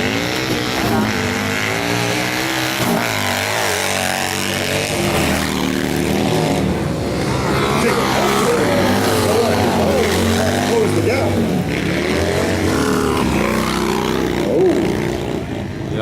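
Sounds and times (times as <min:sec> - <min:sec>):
racing motorcycle engines revving: 0:00.0 - 0:16.0.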